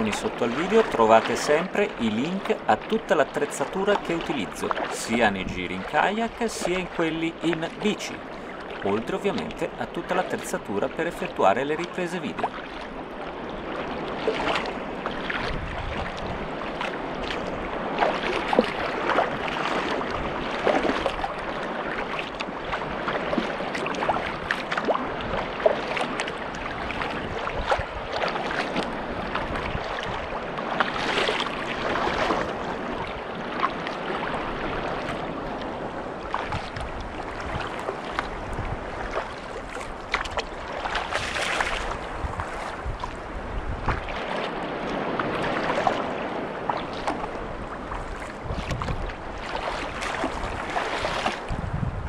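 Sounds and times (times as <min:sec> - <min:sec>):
paddle blades dipping: 0:00.0 - 0:51.7
continuous wash of water: 0:00.0 - 0:52.0
waves slapping a hull: 0:00.0 - 0:52.0.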